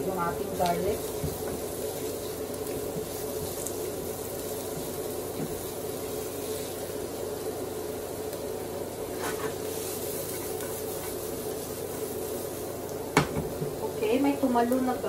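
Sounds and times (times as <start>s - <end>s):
onion and garlic sizzling in oil: 0.0s - 15.0s.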